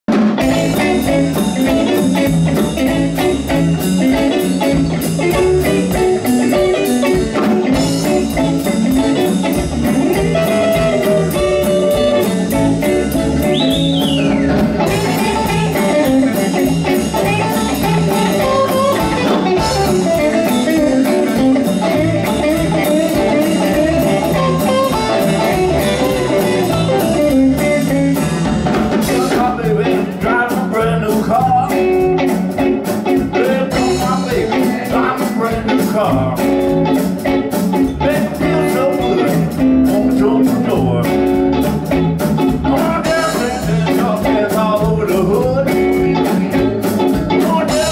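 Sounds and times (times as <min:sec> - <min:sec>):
drum kit beat: 0:00.1 - 0:47.9
electric bass: 0:00.1 - 0:47.9
electric guitars: 0:00.1 - 0:47.9.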